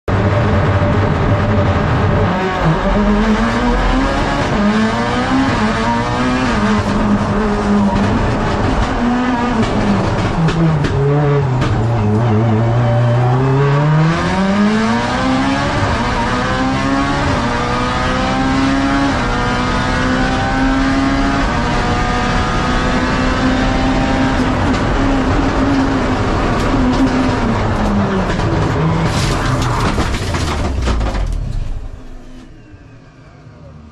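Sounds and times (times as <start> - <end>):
race car engine shifting gears: 0.8 - 32.7.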